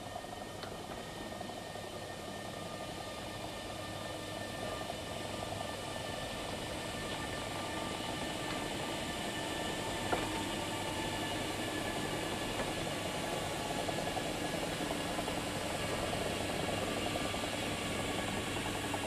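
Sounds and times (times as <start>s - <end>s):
electric train drive whine: 0.0s - 19.0s.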